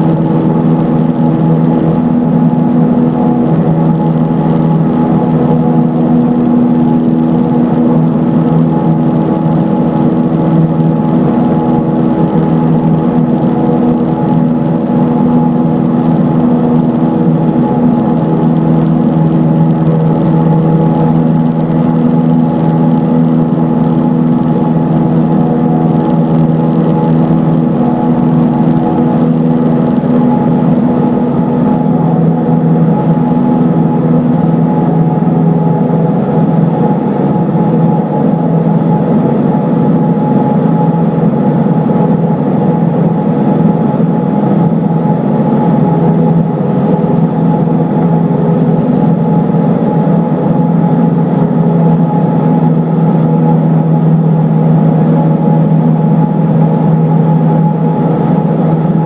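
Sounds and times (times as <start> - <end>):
airplane engine and propeller droning: 0.0 - 59.0.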